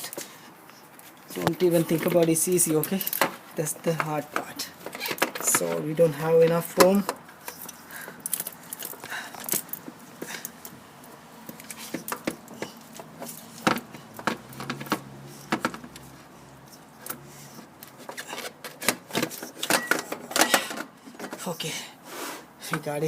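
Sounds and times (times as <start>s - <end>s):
hand tools clicking and rattling: 0.9s - 21.7s.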